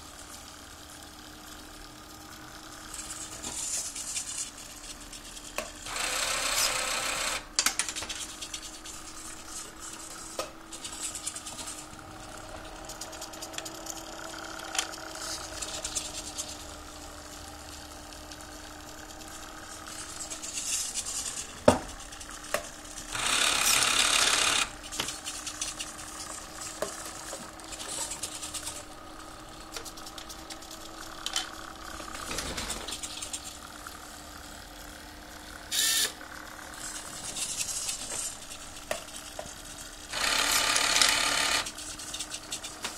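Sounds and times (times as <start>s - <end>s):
steady low hum: 0.0s - 40.5s
servo motors whirring: 3.0s - 16.9s, 18.4s - 33.6s, 35.7s - 36.2s, 36.8s - 42.9s.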